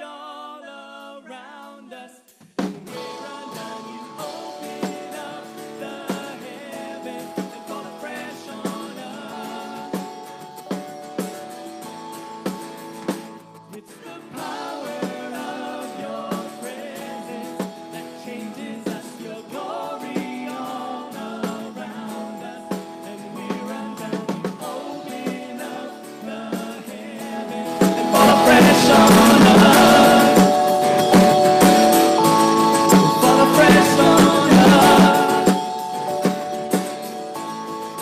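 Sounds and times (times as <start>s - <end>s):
acoustic guitar: 2.4s - 38.0s
keyboard: 2.9s - 38.0s
voices singing: 3.0s - 10.5s, 13.8s - 38.0s.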